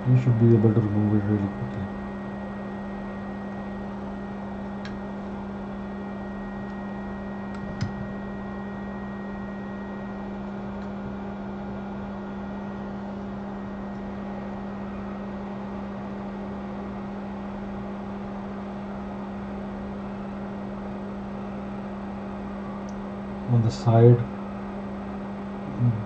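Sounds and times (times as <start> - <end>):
low hum with even whir: 0.0 - 26.0.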